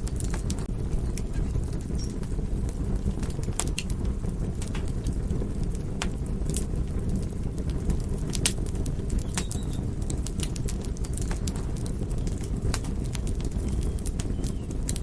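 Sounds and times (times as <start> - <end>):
fire crackling and popping: 0.0 - 15.0
low rumble of burning: 0.0 - 15.0.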